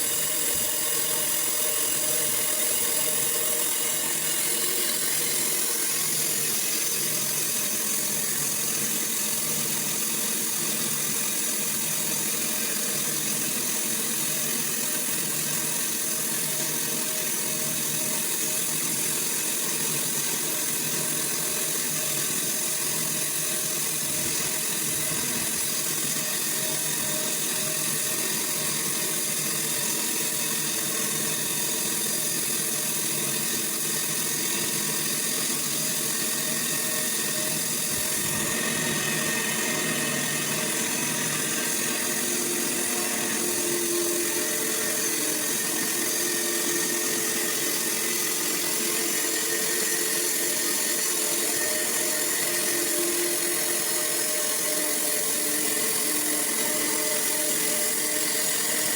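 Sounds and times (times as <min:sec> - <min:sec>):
sawmill machinery drone: 0:00.0 - 0:58.9.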